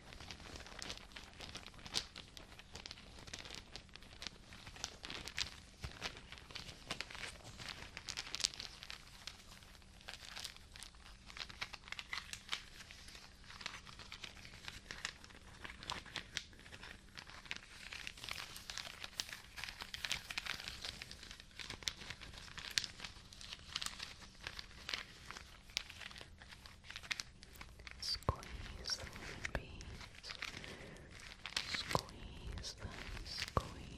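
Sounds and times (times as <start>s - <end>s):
crinkly material crumpling: 0.0s - 33.9s.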